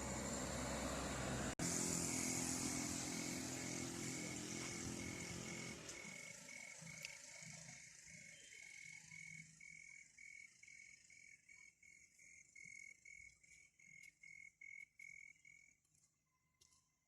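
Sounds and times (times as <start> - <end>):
insect chirping: 0.0 - 16.7.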